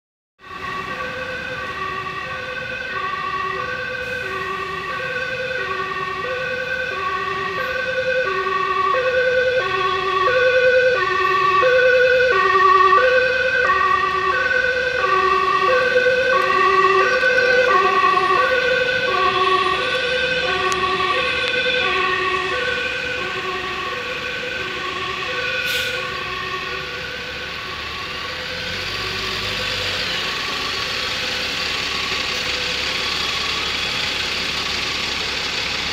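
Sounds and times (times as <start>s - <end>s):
ambulance two-tone siren: 0.4s - 35.9s
traffic hum: 0.4s - 35.9s.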